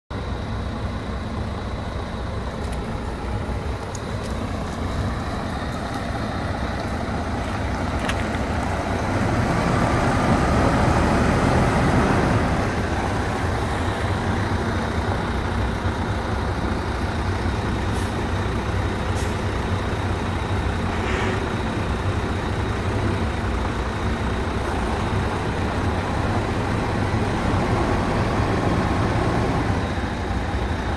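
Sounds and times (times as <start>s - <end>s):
truck diesel engine idling: 0.1s - 30.9s.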